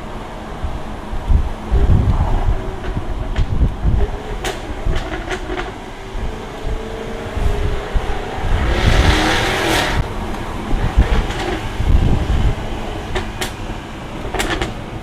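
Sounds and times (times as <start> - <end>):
car engine rumbling: 0.0 - 15.0
exhaust pops and crackles: 1.3 - 15.0.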